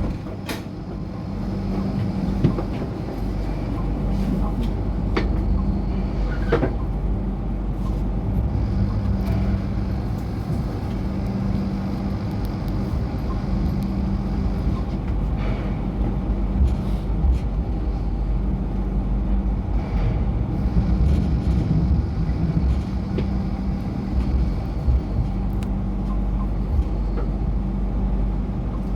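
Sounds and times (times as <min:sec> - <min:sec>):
light rail train rumbling: 0:00.0 - 0:28.9.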